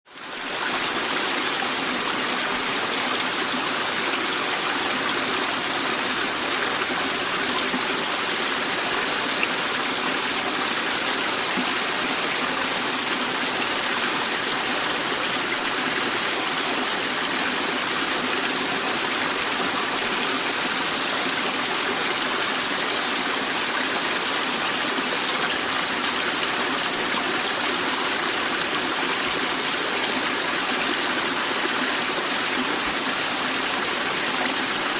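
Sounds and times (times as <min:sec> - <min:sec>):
water rushing over rocks: 0:00.1 - 0:34.9.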